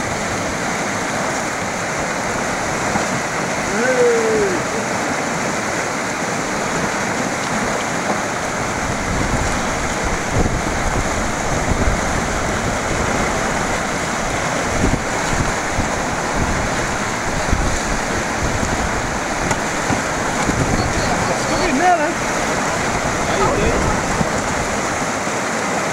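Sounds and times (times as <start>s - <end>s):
river rapids rushing: 0.0s - 25.9s.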